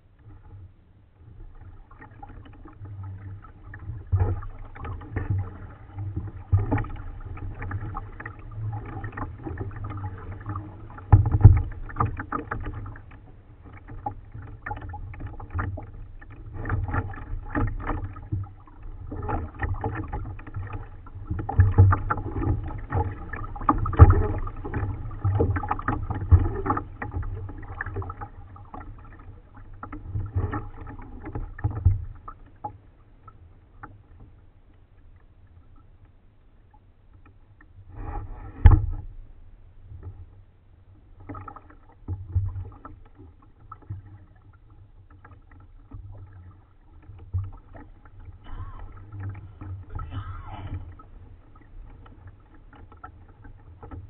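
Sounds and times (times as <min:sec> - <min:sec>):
paddle splashing: 0:00.0 - 0:54.0
water lapping against hull: 0:00.0 - 0:54.0.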